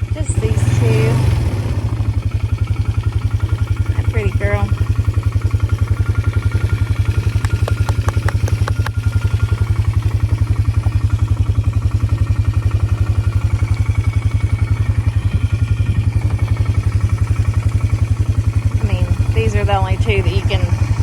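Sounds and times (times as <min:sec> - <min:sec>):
atv engine idling: 0:00.0 - 0:21.0.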